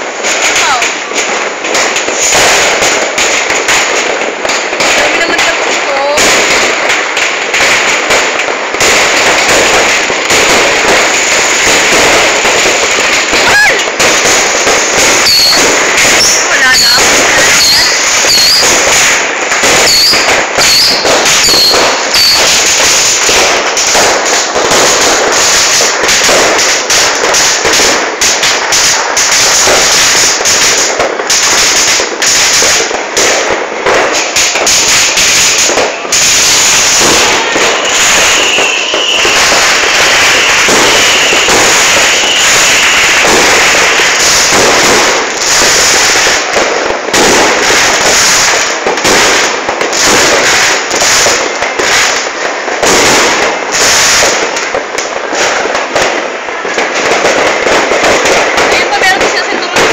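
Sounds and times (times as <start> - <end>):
firecrackers crackling and banging: 0.0 - 59.9
firework whistles: 7.6 - 59.9.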